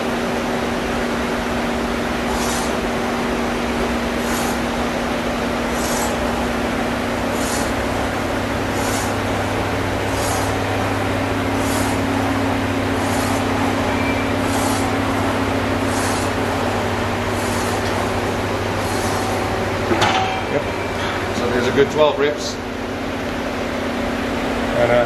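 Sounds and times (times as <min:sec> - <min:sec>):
background hum and hiss: 0:00.0 - 0:25.0.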